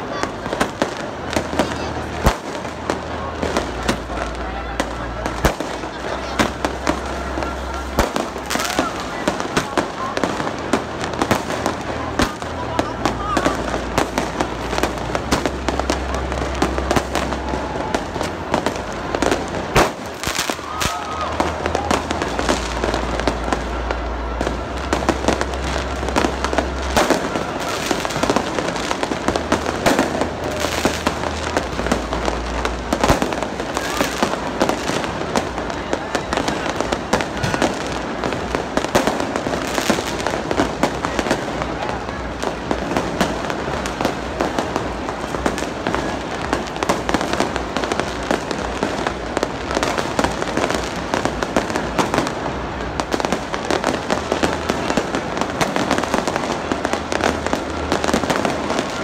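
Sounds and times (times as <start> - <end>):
crowd chattering: 0.0 - 59.0
fireworks bursting and crackling: 0.0 - 59.0.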